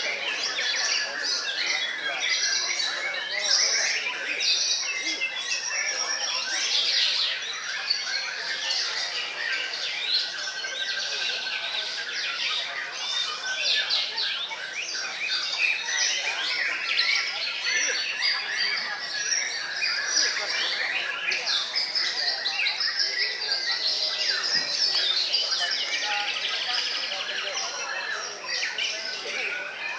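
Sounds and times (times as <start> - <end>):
songbirds whistling and trilling: 0.0 - 29.9.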